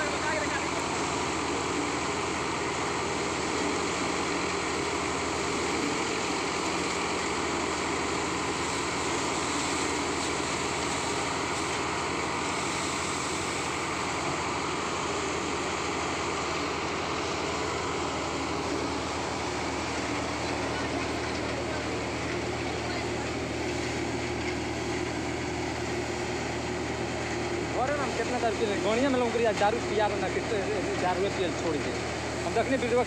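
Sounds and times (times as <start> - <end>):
paddy thresher running: 0.0 - 33.0.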